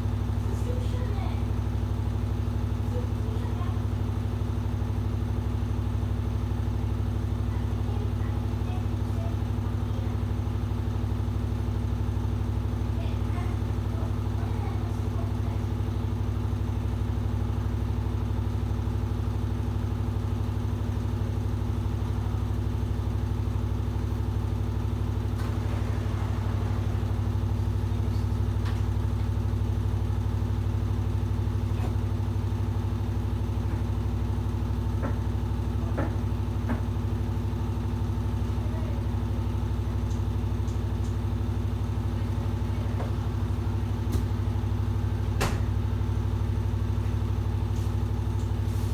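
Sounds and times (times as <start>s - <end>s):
washing machine motor hum: 0.0s - 48.9s.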